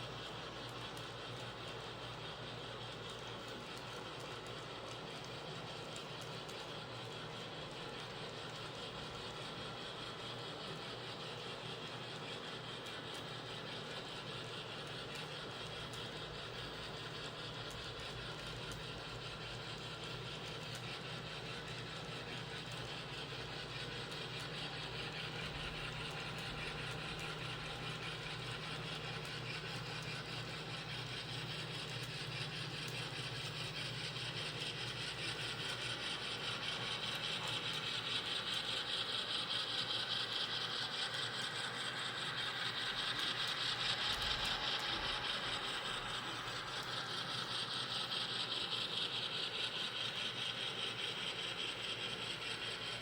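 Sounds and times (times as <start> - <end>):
model train motors whirring: 0.0 - 53.0
wheels clicking on track: 10.3 - 53.0.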